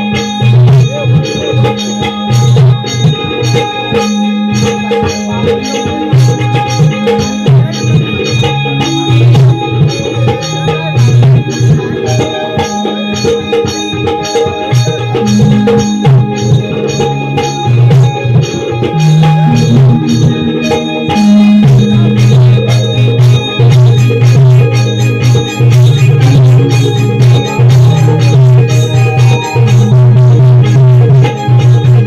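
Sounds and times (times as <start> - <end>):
hand-drum strokes: 0.0 - 32.0
held keyboard notes: 0.0 - 32.0.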